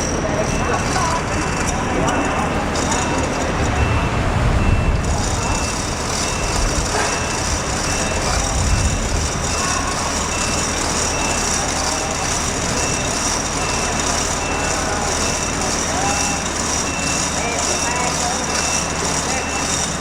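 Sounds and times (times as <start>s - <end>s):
truck engine rumbling: 0.0s - 20.0s
truck reversing alarm beeping: 0.0s - 20.0s.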